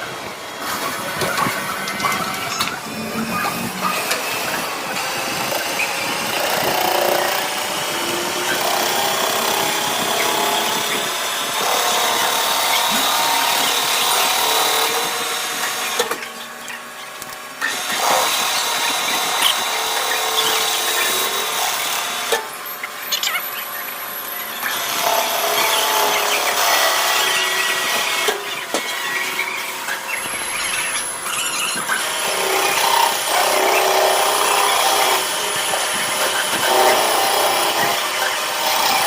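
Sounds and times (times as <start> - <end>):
machine tool cutting metal: 0.0 - 39.0.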